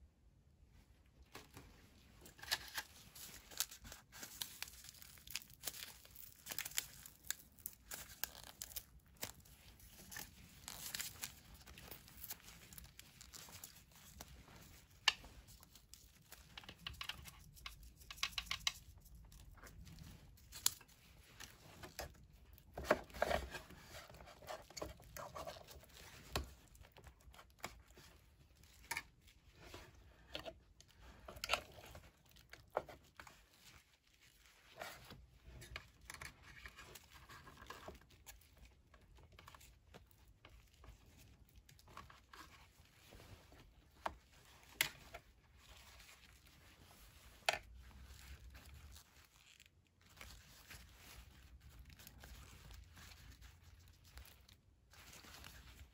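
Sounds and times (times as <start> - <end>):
soft crinkling: 0.6 - 55.9.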